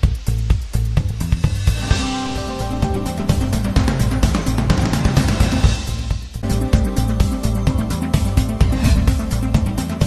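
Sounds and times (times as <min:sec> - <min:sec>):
news theme music with steady beat: 0:00.0 - 0:10.0.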